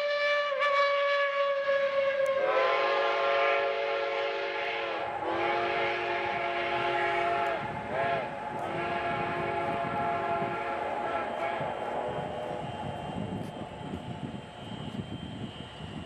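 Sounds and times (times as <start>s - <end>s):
steam locomotive whistle blasts: 0.0s - 16.0s
train coaches rumbling: 2.3s - 16.0s.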